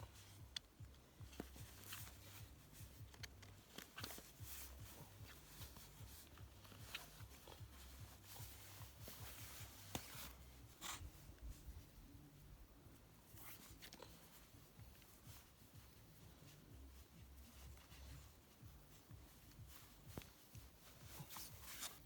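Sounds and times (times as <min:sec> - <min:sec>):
laces rustling and clicking: 0:00.0 - 0:22.0.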